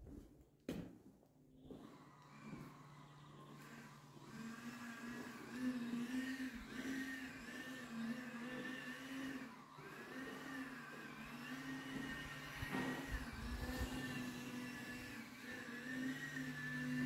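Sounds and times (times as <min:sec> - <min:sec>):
motor humming: 0:01.6 - 0:17.0.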